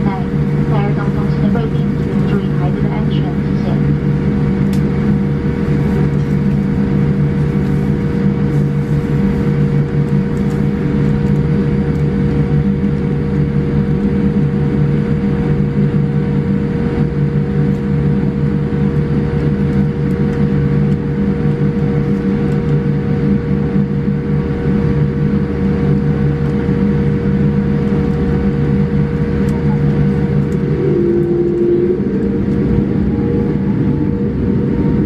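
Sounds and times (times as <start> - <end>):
aircraft systems hum: 0.0 - 35.0
jet engines idling: 0.0 - 35.0.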